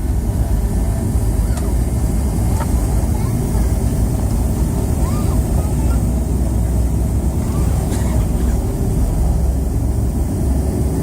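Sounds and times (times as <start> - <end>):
airliner engines rumbling in cabin: 0.0 - 11.0.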